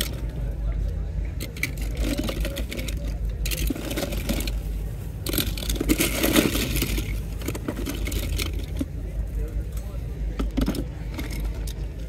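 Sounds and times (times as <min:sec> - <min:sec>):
metal toy cars clattering: 0:00.0 - 0:00.4, 0:01.3 - 0:12.0
steady low rumble: 0:00.0 - 0:12.0.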